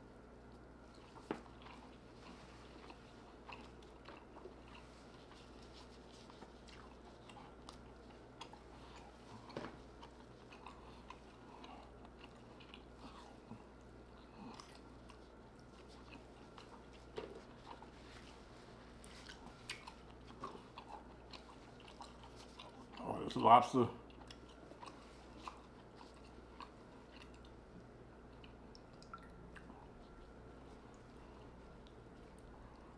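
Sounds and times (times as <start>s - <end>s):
person chewing: 0.4s - 23.1s, 24.0s - 32.9s.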